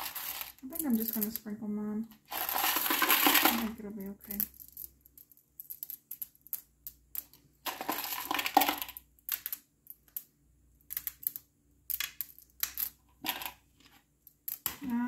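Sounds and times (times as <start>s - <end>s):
candies clicking and rattling: 0.0s - 1.5s, 2.2s - 13.7s, 14.3s - 15.0s.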